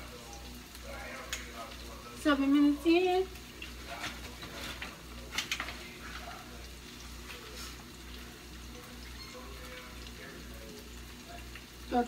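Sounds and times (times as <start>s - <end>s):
onions sizzling in a skillet: 0.0s - 12.0s.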